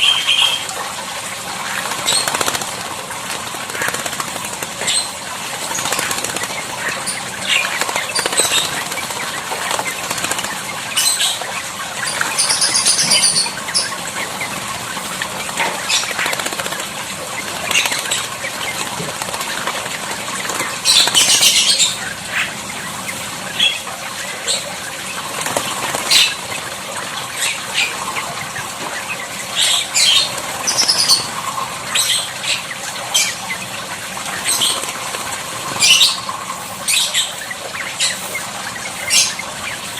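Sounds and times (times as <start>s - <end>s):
high-pitched bird calls: 0.0s - 0.8s, 3.6s - 19.5s, 20.3s - 39.9s
bird fluttering and splashing in water: 0.0s - 39.9s.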